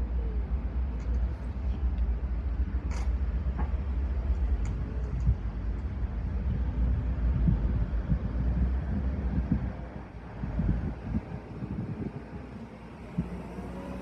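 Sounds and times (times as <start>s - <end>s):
heavy machinery engine rumble: 0.0s - 13.7s.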